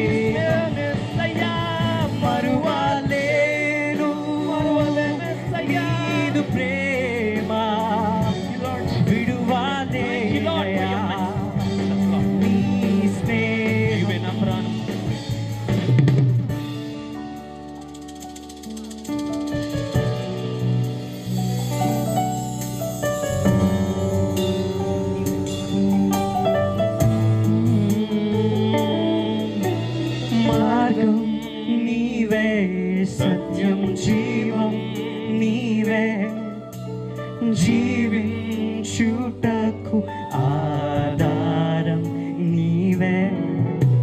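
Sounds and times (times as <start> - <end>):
man singing: 0.0 - 15.8, 23.4 - 44.0
drum kit: 0.0 - 44.0
electric guitar: 0.0 - 44.0
keyboard chords: 0.0 - 44.0.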